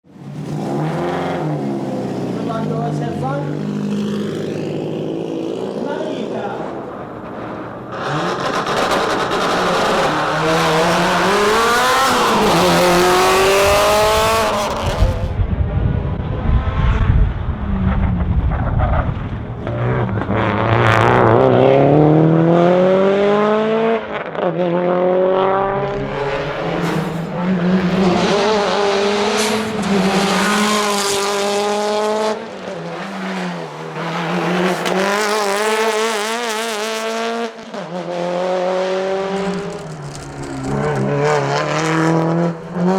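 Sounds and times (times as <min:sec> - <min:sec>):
rally car engine revving: 0:00.1 - 0:42.9.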